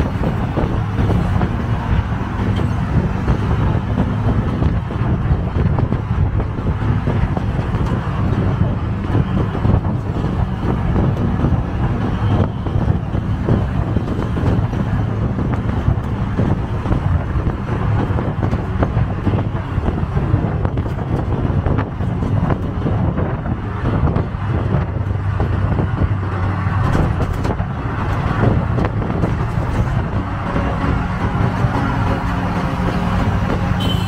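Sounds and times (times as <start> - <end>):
auto-rickshaw engine running: 0.0 - 34.0
road and wind noise: 0.0 - 34.0.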